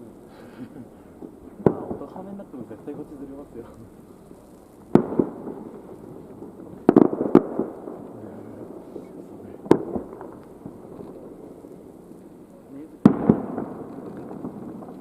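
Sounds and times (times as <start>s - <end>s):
fireworks bursting with echo: 0.0s - 15.0s.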